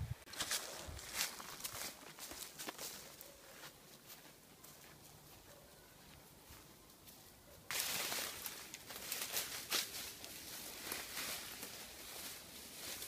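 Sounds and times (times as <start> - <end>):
footsteps crunching through dry leaves: 0.3 - 13.0.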